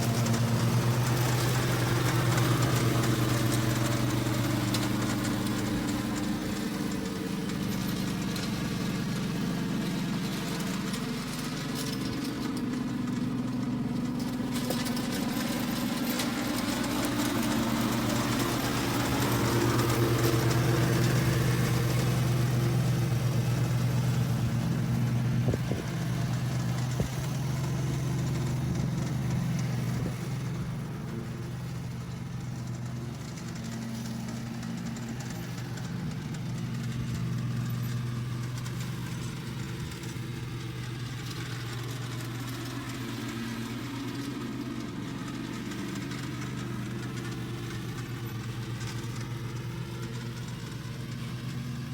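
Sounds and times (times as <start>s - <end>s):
lawn tractor engine running: 0.0s - 51.9s.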